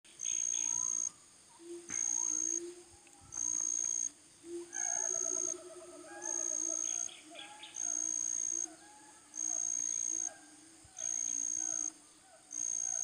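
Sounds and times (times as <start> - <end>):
hooting and warbling calls: 0.2 - 13.0.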